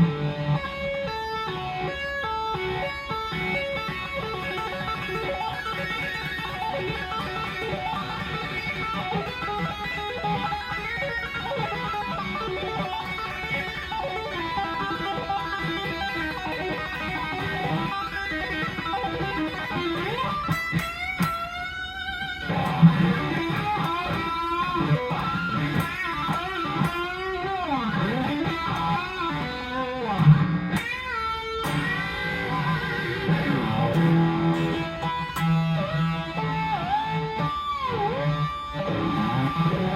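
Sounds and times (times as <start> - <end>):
electric guitar lead notes: 0.0 - 39.9.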